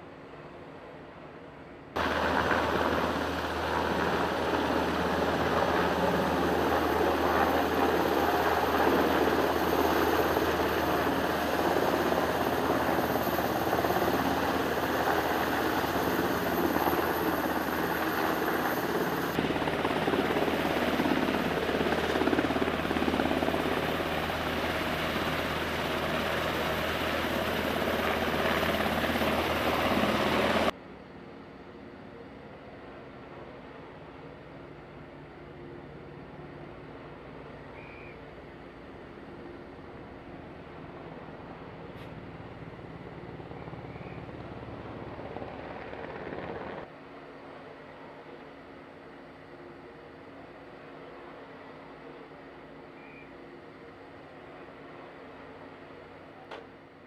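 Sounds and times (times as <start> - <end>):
helicopter turbines and rotors: 2.0 - 57.0.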